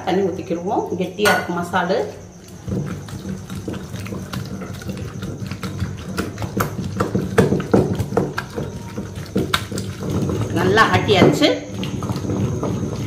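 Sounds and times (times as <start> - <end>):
stone pestle grinding in bowl: 2.5 - 13.0.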